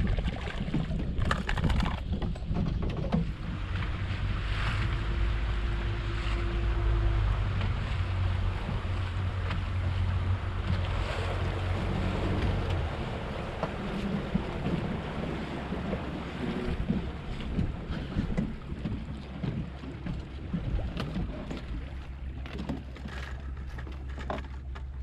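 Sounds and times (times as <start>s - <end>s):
wind buffeting microphone: 0.0s - 22.7s
low engine hum: 0.0s - 25.0s
water washing against hull: 0.0s - 25.0s.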